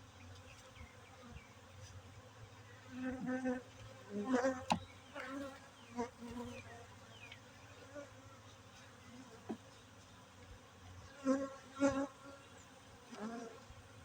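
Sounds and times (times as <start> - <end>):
bees flying past buzzing: 0.0 - 14.0
honeybees buzzing: 0.0 - 14.0.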